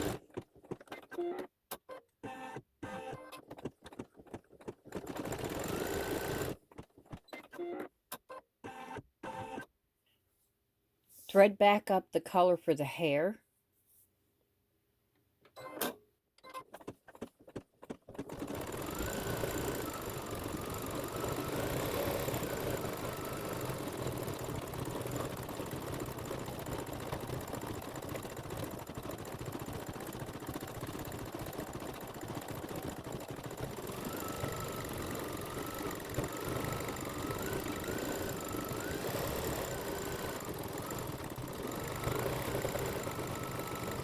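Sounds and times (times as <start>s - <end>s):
embroidery machine stitching: 0.0s - 9.7s, 16.7s - 44.0s.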